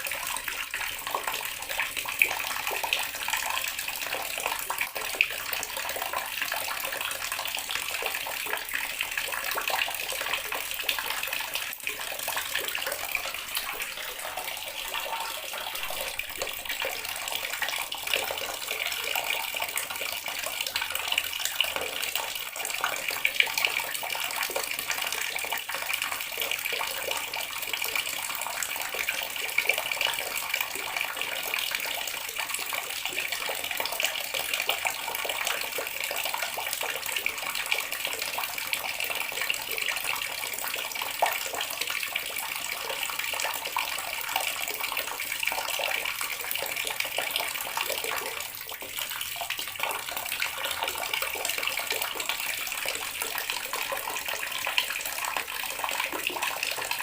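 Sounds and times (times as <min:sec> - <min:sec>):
water running from a tap: 0:00.0 - 0:57.0.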